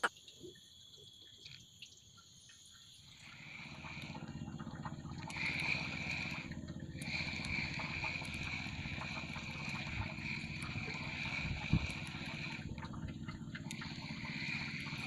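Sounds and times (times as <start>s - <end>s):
small boat engine whining: 0.0s - 15.0s.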